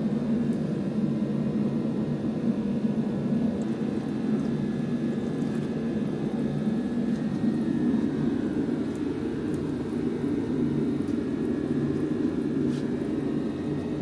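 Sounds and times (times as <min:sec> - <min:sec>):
low drone of running machinery: 0:00.0 - 0:14.0.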